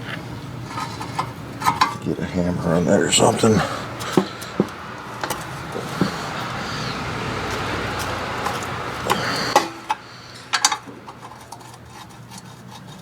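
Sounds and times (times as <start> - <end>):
hand tools knocking on metal: 0.7 - 13.0.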